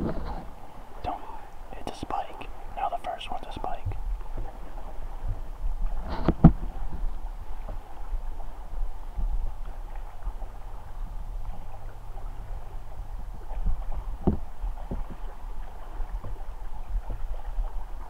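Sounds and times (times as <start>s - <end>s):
wind rumble on microphone: 0.0s - 2.8s, 3.4s - 18.0s
water moving around raft: 0.0s - 18.0s.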